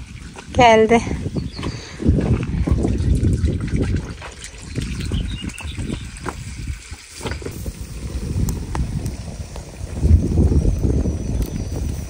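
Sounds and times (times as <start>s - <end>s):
water gushing from a pipe: 0.0s - 12.0s
wind rumble on microphone: 0.0s - 12.0s.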